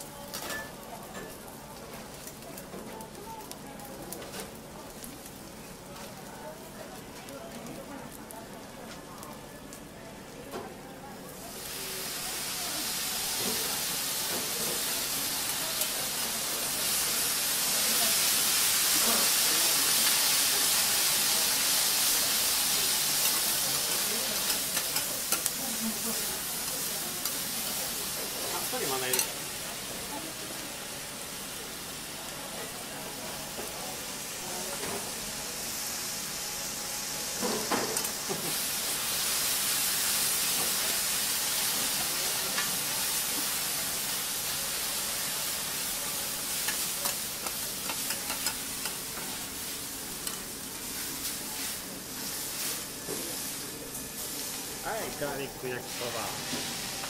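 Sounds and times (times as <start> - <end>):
noodles sizzling on a griddle: 0.0 - 57.0.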